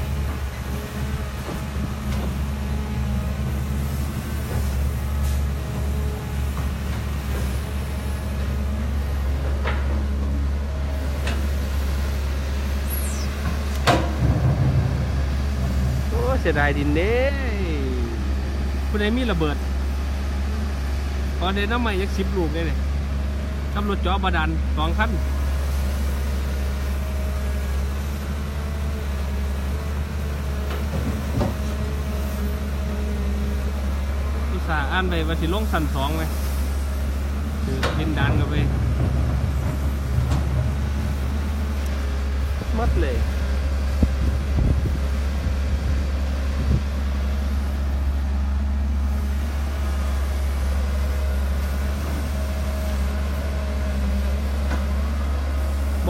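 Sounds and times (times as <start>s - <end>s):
dump truck engine droning: 0.0s - 56.0s.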